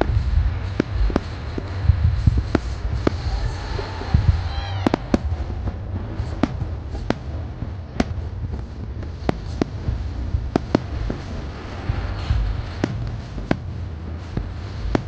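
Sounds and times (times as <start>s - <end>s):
fireworks bursting with sharp bangs: 0.0s - 15.0s
steady low rumble: 0.0s - 15.0s.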